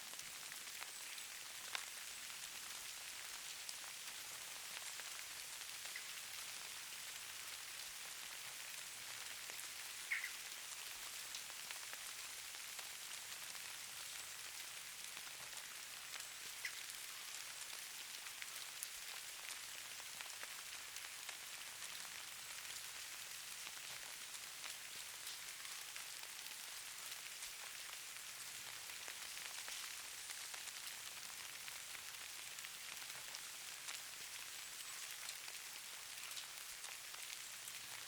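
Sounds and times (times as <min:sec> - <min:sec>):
light rain pattering: 0:00.0 - 0:38.0.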